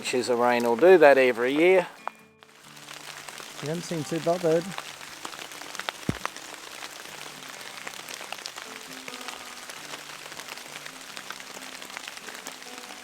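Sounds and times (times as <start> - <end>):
rain pattering: 0.0 - 13.0
soft music of slow held notes: 0.0 - 13.0.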